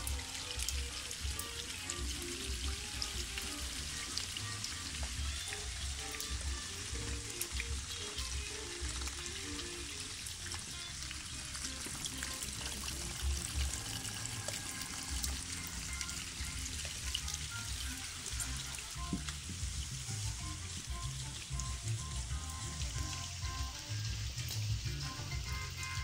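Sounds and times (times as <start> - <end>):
rain pattering on paving: 0.0 - 26.0
rainwater running in gutter: 0.0 - 26.0.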